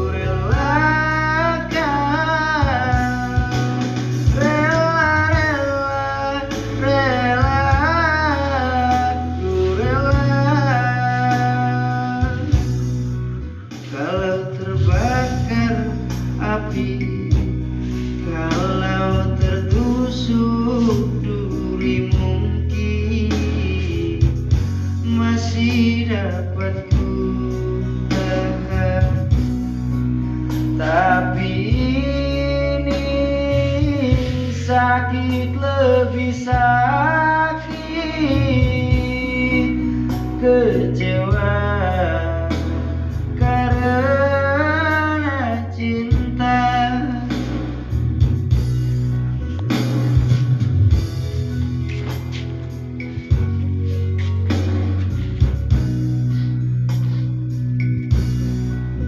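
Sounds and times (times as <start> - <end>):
man singing into a microphone: 0.0 - 48.2
karaoke backing track: 0.0 - 59.0.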